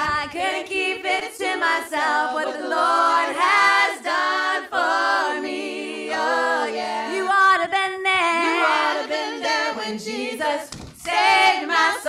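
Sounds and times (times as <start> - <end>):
women singing a cappella in harmony: 0.0 - 12.0.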